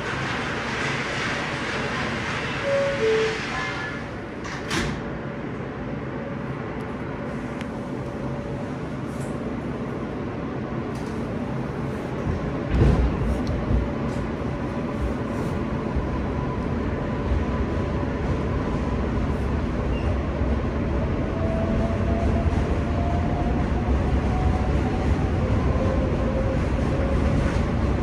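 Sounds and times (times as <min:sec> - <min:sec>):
subway car running rumble: 0:00.0 - 0:28.0.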